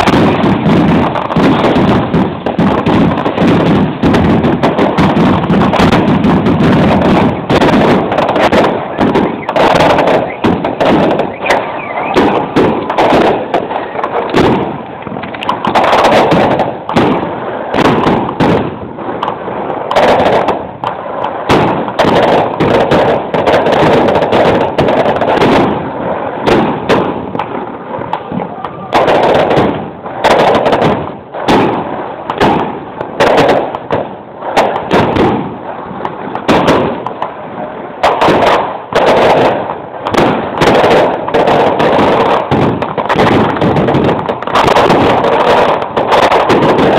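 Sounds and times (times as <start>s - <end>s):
fireworks bangs and crackle: 0.0s - 46.9s.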